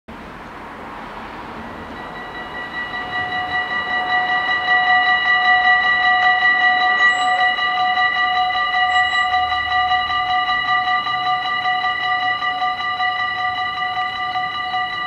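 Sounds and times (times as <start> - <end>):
level crossing warning bells: 0.8 - 15.0.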